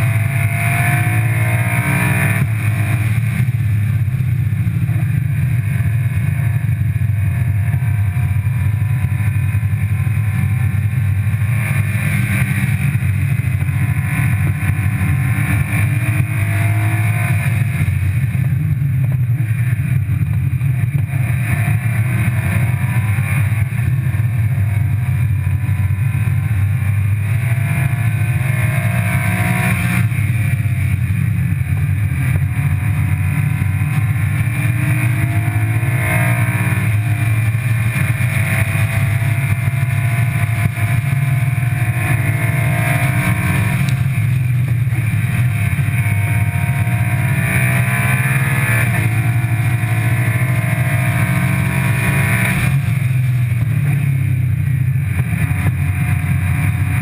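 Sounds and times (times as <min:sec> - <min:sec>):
car engine accelerating: 0:00.0 - 0:57.0
wind and road noise roar: 0:00.0 - 0:57.0.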